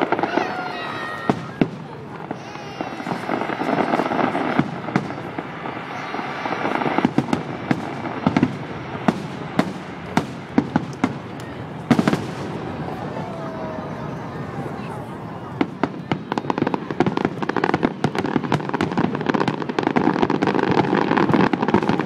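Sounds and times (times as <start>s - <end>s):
fireworks dense crackle: 0.0s - 22.0s
fireworks sharp bangs: 0.0s - 22.0s.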